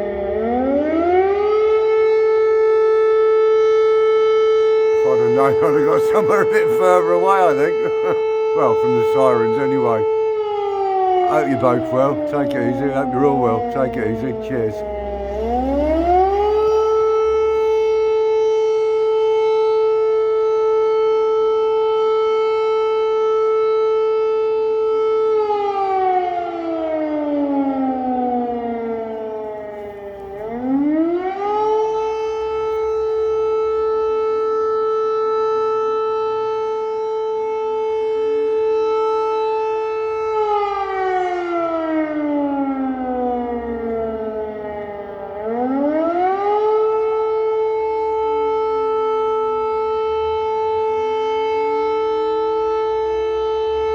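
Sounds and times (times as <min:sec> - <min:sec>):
air raid siren wailing: 0:00.0 - 0:53.9.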